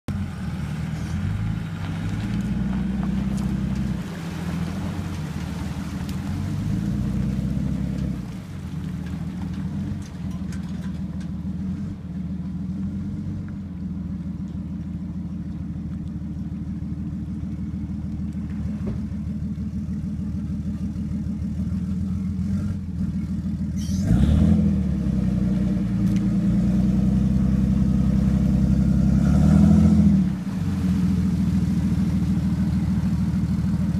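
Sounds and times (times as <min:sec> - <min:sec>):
rush of water: 0:00.1 - 0:12.0, 0:12.8 - 0:33.9
boat engine running: 0:00.1 - 0:24.1, 0:24.7 - 0:33.9.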